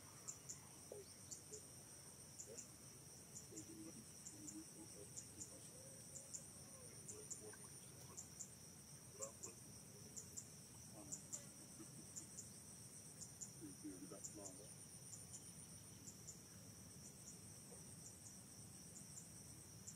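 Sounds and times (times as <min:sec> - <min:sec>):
high-pitched insect chorus: 0:00.0 - 0:19.9.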